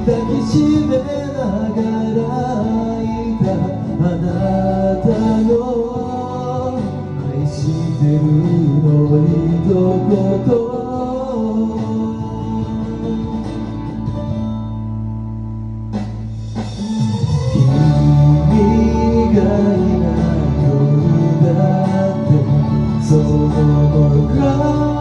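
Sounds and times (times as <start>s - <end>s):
man singing pop ballad: 0.0s - 14.4s, 17.5s - 25.0s
karaoke backing track with guitar: 0.0s - 25.0s.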